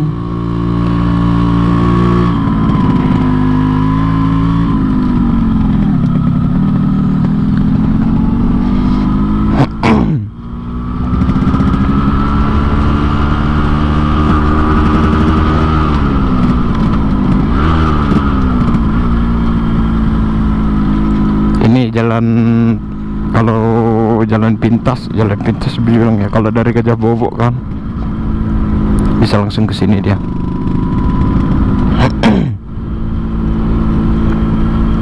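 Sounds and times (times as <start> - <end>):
two-stroke motorcycle engine: 0.0 - 35.0.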